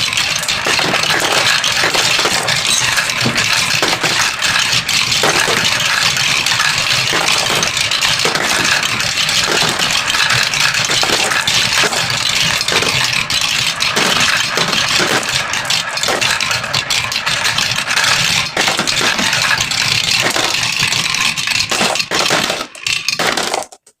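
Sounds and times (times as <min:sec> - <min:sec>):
marbles rattling down a track: 0:00.0 - 0:24.0.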